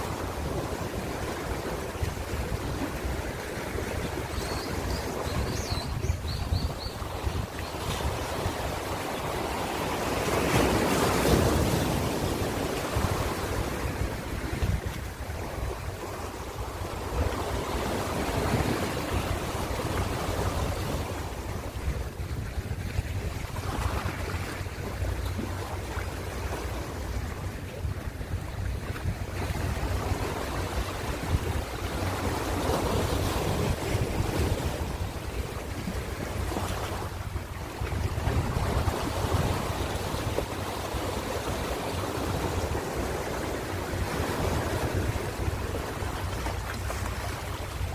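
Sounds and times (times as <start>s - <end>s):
ocean waves washing on shore: 0.0s - 47.9s.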